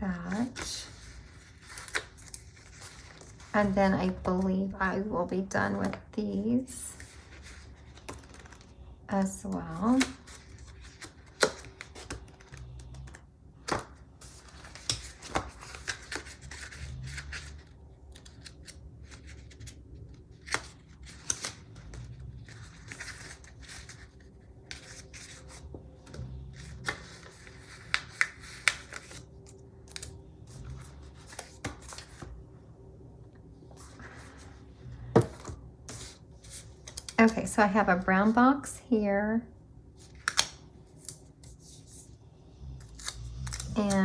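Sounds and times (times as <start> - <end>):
paper rustling and scratching: 0.1 - 6.1, 6.8 - 32.4, 33.7 - 38.4, 40.0 - 44.0.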